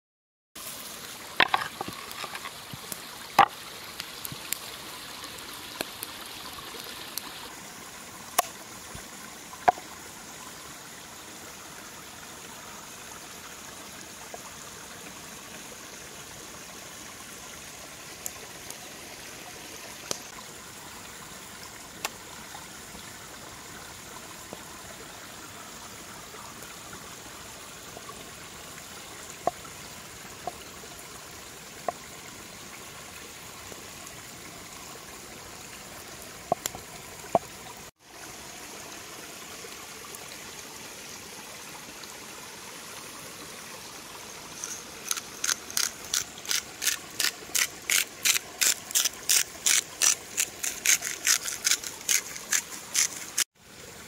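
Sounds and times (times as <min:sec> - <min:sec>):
running water: 0:00.6 - 0:54.0.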